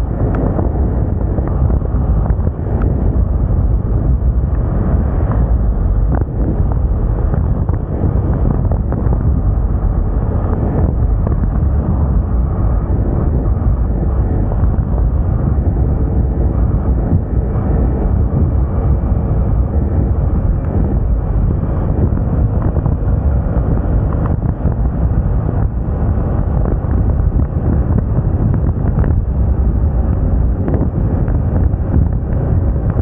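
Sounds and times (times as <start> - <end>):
road noise: 0.0 - 33.0
wind rush on microphone: 0.0 - 33.0.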